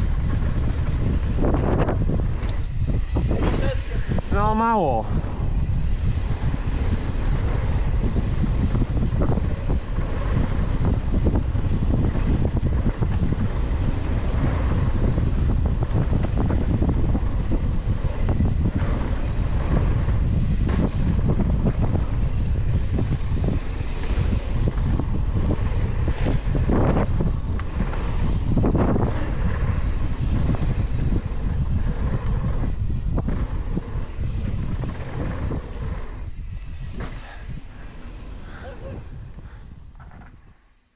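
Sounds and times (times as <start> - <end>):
tyres rolling on dirt: 0.0 - 40.6
bike rattling over bumps: 0.0 - 40.8
wind buffeting microphone: 0.0 - 40.9.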